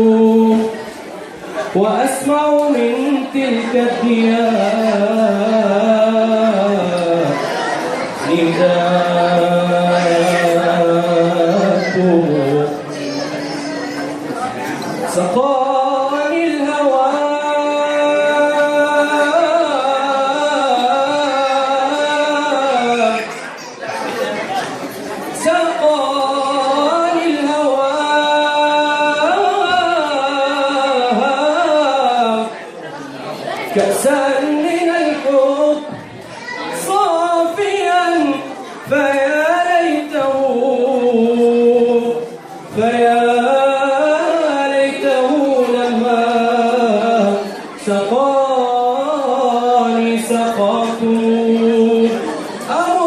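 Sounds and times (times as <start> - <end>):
man singing unaccompanied: 0.0 - 0.9, 1.6 - 13.9, 15.0 - 23.4, 25.3 - 32.7, 33.6 - 53.0.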